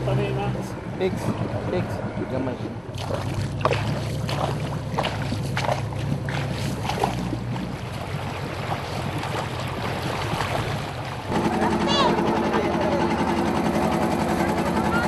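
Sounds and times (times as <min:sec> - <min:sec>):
boat engine humming: 0:00.0 - 0:15.0
water splashing and knocking: 0:01.0 - 0:14.8.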